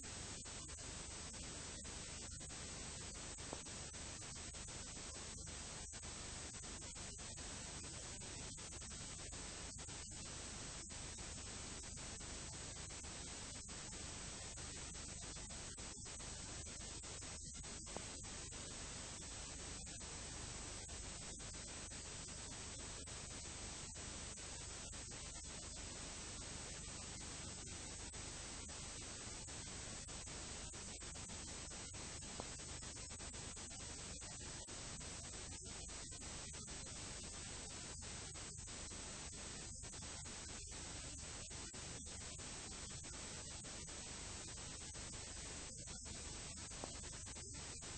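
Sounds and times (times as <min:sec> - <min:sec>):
recording hiss: 0:00.0 - 0:47.9.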